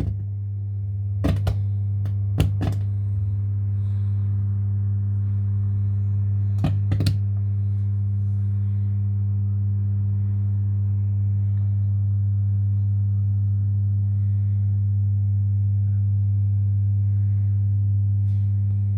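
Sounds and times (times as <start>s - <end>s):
speakers buzzing hum: 0.0s - 18.9s.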